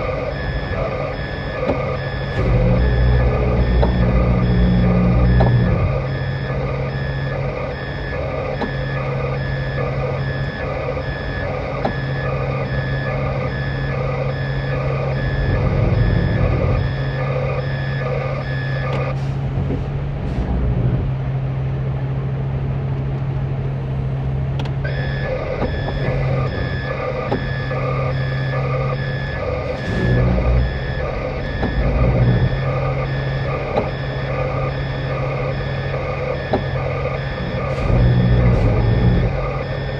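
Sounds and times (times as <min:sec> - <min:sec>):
truck back-up alarm beeping: 0:00.0 - 0:19.6, 0:24.0 - 0:39.9
truck engine running: 0:00.0 - 0:39.9.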